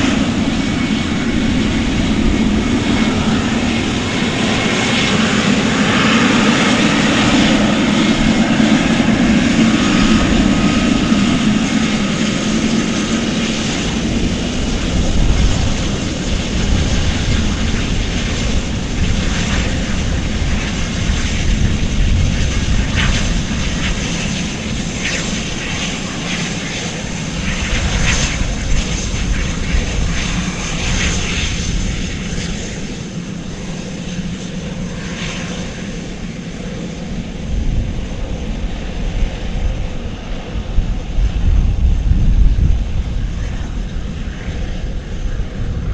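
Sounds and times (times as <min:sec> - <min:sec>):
airplane engines humming: 0:00.0 - 0:45.9.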